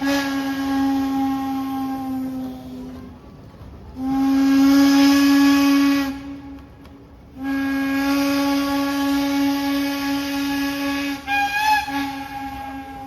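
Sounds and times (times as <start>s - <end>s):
steam locomotive whistle blasts: 0.0s - 2.9s, 4.0s - 6.7s, 7.3s - 13.0s.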